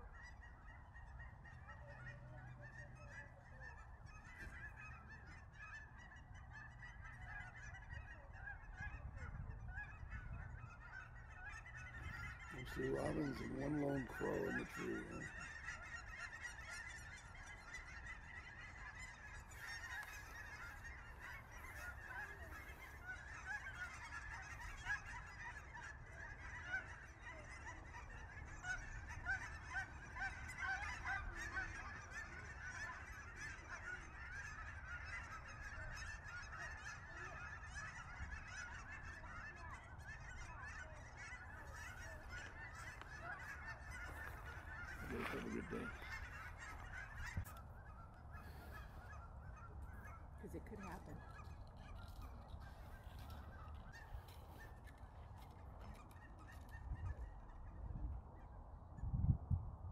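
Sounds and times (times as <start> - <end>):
geese honking: 0.0 - 58.8.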